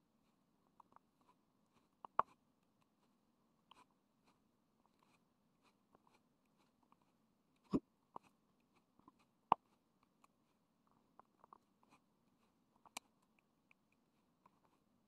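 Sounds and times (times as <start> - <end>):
faint clicks and taps: 0.2 - 14.9.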